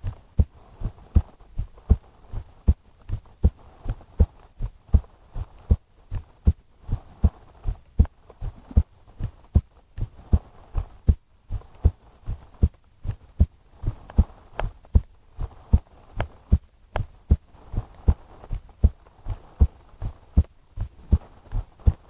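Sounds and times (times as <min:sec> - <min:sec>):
heartbeat thumps: 0:00.0 - 0:22.0.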